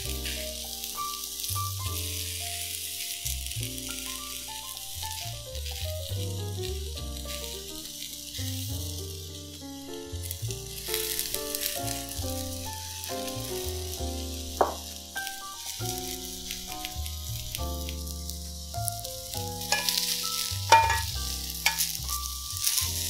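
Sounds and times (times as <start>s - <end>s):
soft melodic background music: 0.0s - 23.0s
vegetables sizzling on grill pan: 0.0s - 23.0s.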